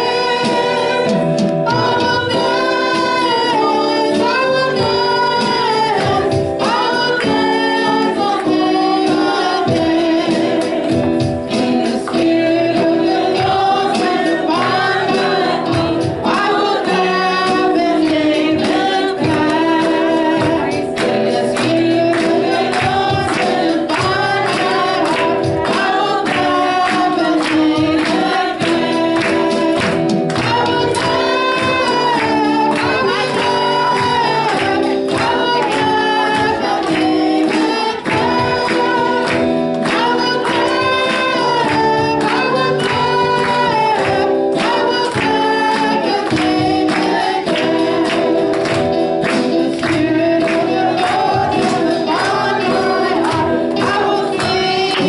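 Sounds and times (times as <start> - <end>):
group singing worship song: 0.0 - 55.0.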